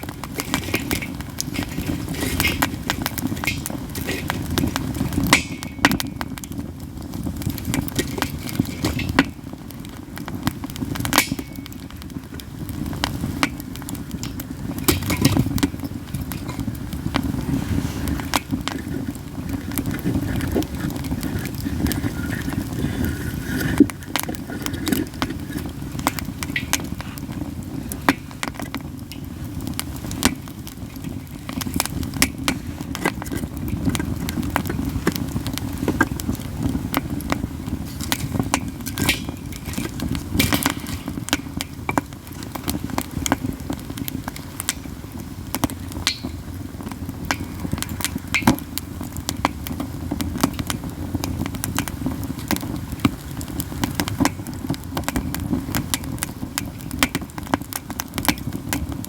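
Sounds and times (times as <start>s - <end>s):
campfire crackling and popping: 0.0s - 59.0s
low rush of fire: 0.0s - 59.0s.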